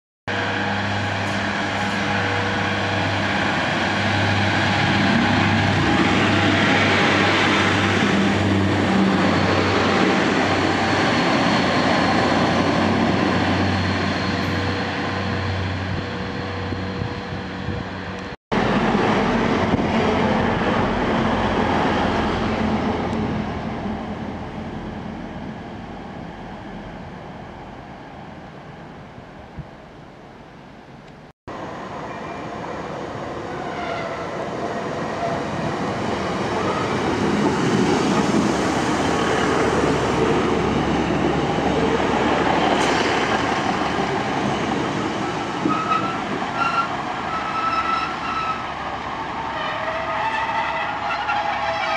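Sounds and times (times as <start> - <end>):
diesel train engine drone: 0.3 - 51.9
train approaching: 0.3 - 51.9.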